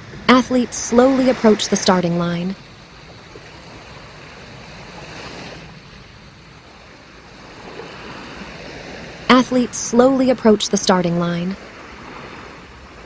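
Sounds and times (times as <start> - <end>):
waves washing on shore: 0.0 - 13.0.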